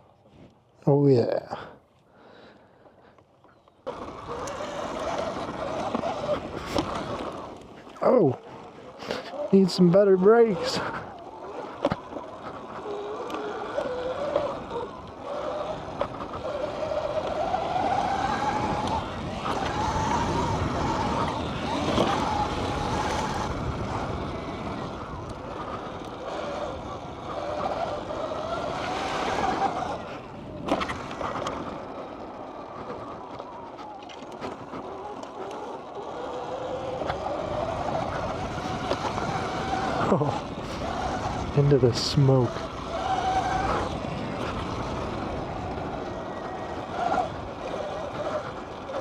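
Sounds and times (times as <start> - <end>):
dirt bike motor: 0.0 - 49.0
wind and tyre noise: 0.0 - 49.0.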